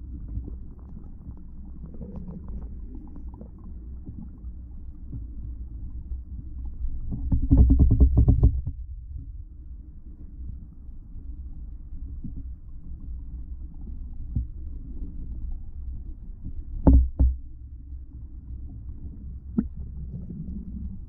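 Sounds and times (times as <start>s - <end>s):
muffled underwater rumble: 0.0s - 21.0s.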